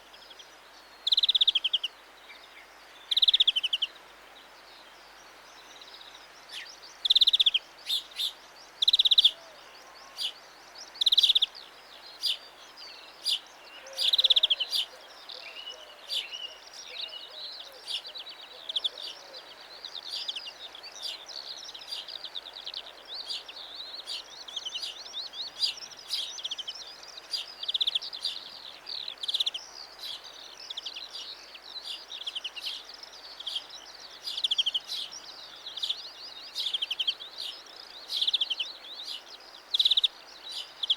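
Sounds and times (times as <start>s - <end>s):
greenfinch trilling song: 6.5s - 40.9s.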